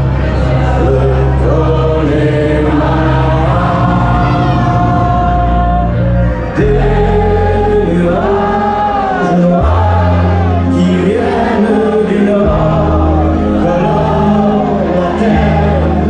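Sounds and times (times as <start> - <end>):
crowd singing along: 0.0 - 16.0.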